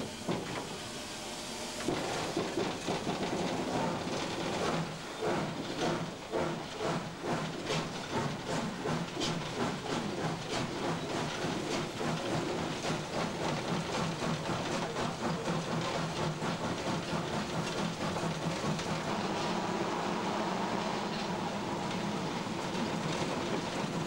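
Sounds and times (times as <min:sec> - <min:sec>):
steam hissing: 0:00.0 - 0:24.0
steam locomotive exhaust beats: 0:00.0 - 0:24.0
train rolling noise: 0:00.0 - 0:24.0.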